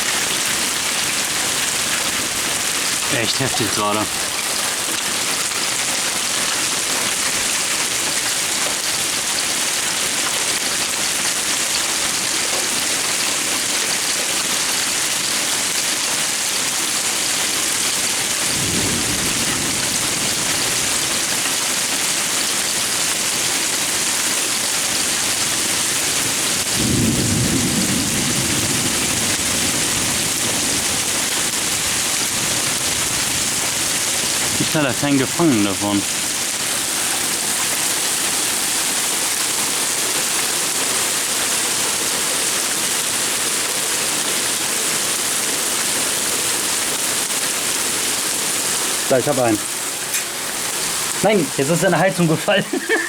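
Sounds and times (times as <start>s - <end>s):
heavy rain and hail: 0.0s - 53.0s.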